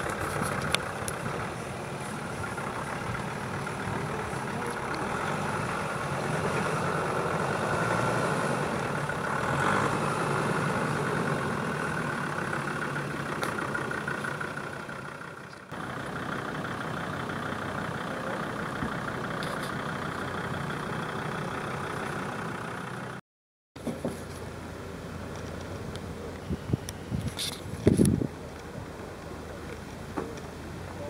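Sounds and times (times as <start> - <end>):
car engine running at low revs: 0.0 - 23.2, 23.8 - 31.0.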